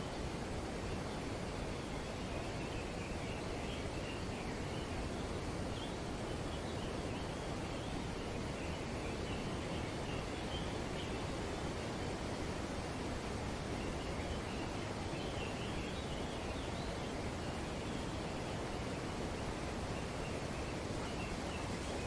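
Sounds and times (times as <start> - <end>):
wind rustling through foliage: 0.0 - 22.0.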